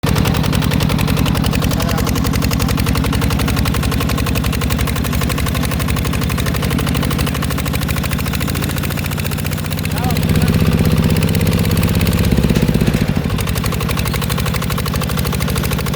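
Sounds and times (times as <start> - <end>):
tractor engine chugging: 0.0 - 15.9.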